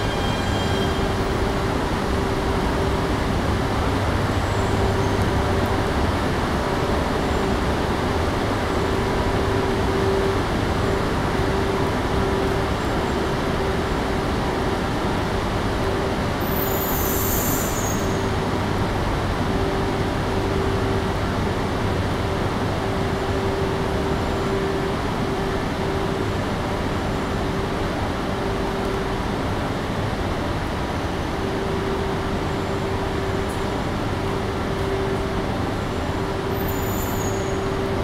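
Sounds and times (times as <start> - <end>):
station rumbling hum: 0.0 - 16.4, 18.0 - 36.6.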